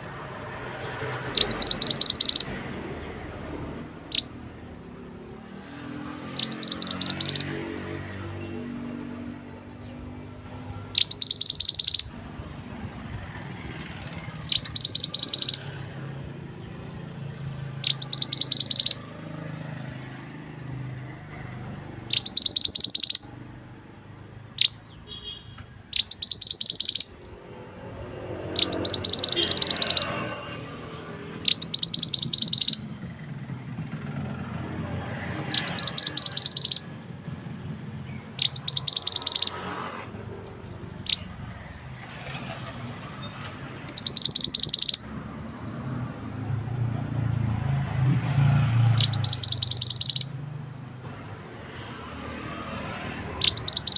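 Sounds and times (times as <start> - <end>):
songbird trilling: 0.0 - 4.5, 5.3 - 17.0, 17.7 - 23.8, 24.5 - 33.0, 34.2 - 47.6, 48.8 - 52.0, 53.2 - 53.9
bird chirp: 0.0 - 33.2, 33.9 - 53.9.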